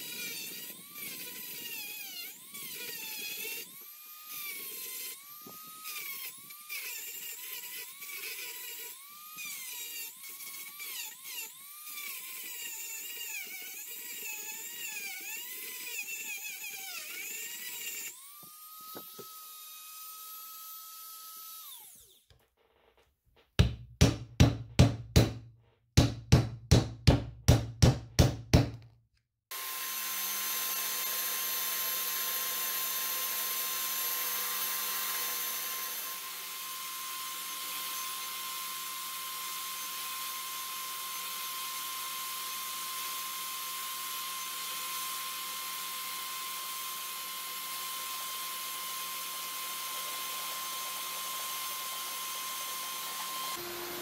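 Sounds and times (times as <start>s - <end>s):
electric drill motor whine: 0.0s - 22.9s, 29.5s - 54.0s.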